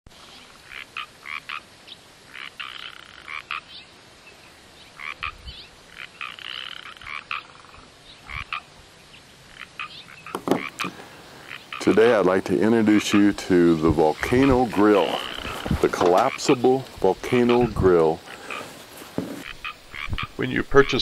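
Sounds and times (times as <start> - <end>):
frogs calling: 0.2 - 21.0.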